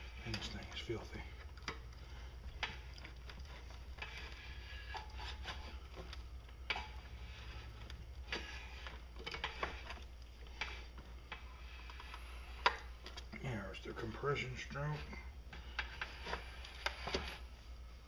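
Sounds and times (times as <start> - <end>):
metal clicks and scrapes: 0.0 - 13.3, 13.9 - 17.5
low steady hum: 0.0 - 18.0.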